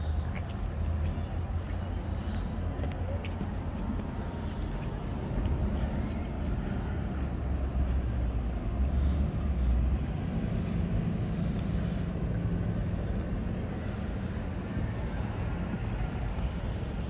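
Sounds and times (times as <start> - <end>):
low engine rumble: 0.0 - 17.0
outdoor city noise: 0.0 - 17.0.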